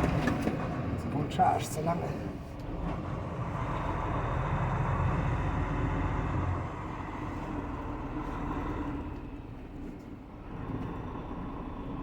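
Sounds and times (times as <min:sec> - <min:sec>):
heavy truck engine rumbling: 0:00.0 - 0:12.0.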